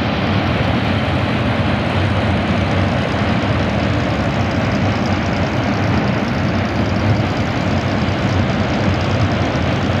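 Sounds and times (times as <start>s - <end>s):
train rumbling across bridge: 0.0s - 10.0s.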